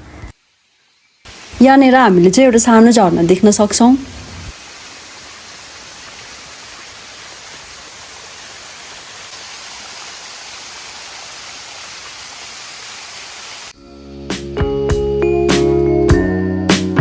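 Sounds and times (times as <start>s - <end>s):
small waterfall rushing: 0.0s - 13.8s.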